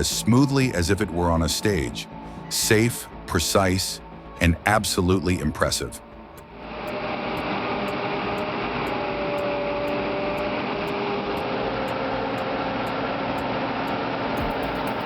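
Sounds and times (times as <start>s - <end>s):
heavy vehicle engine running: 0.0s - 15.0s
thin steady whine: 0.0s - 15.0s.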